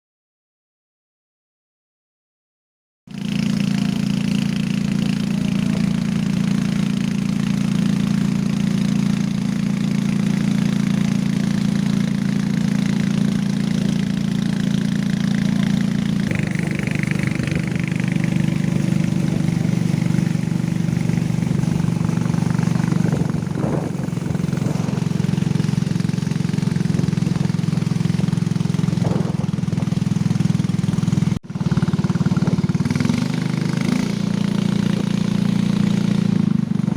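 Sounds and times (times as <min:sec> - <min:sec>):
motorcycle engine drone: 0:03.1 - 0:36.9.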